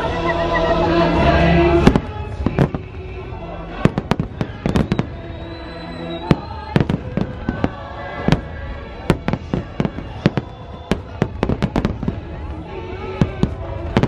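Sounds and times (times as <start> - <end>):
fireworks bursting with sharp bangs: 1.7 - 14.0.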